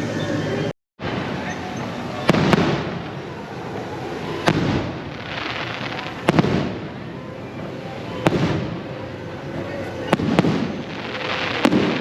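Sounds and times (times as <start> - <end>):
fireworks bangs: 1.0 - 12.0
fireworks crackle and hiss: 1.0 - 12.0.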